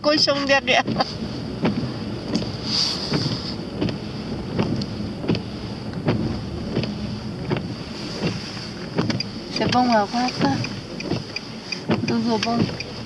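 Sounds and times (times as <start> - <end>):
tyre and engine noise: 0.0 - 13.0.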